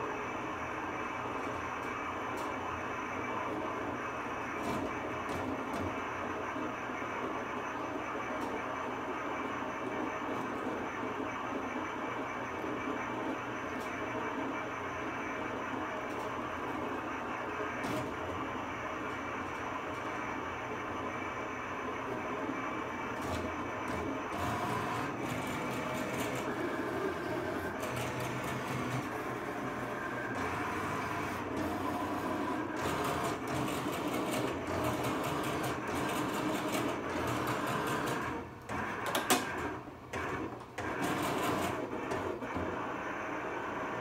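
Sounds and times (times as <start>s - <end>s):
cutting plotter motors whirring: 0.0s - 44.0s.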